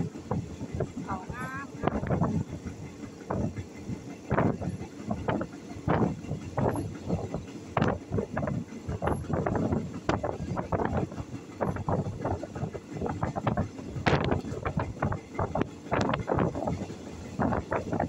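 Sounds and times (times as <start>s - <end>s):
passenger train running: 0.0s - 18.0s
wind buffeting microphone: 0.0s - 18.0s.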